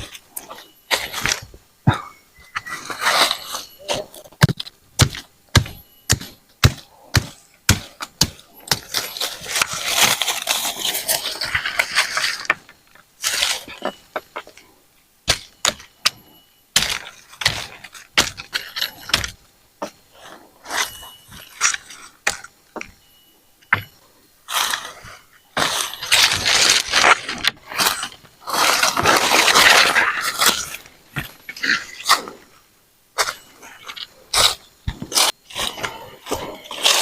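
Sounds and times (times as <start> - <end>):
crackling rustle: 2.4 - 4.8, 8.0 - 37.0.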